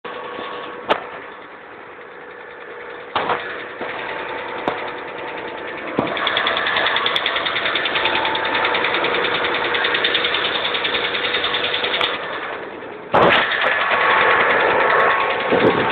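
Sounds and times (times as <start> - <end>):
car engine running: 0.0 - 15.9
engine ticking: 0.0 - 15.9.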